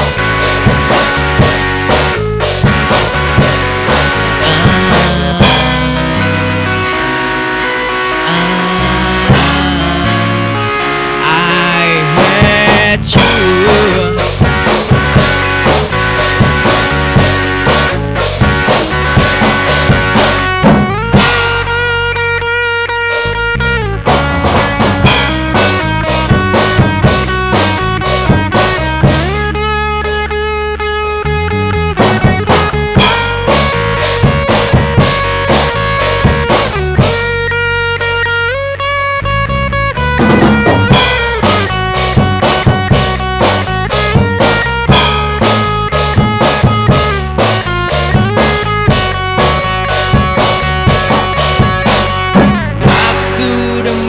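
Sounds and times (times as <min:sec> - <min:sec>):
drum kit: 0:00.0 - 0:30.4, 0:31.4 - 0:38.4, 0:39.9 - 0:54.0
bass guitar: 0:00.0 - 0:54.0
lead guitar bending notes: 0:00.0 - 0:54.0.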